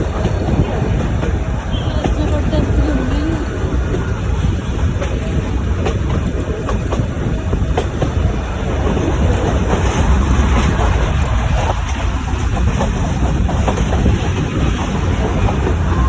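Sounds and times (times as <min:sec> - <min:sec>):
toy train rumbling on track: 0:00.0 - 0:16.0
wheels clicking and clacking: 0:00.0 - 0:16.0.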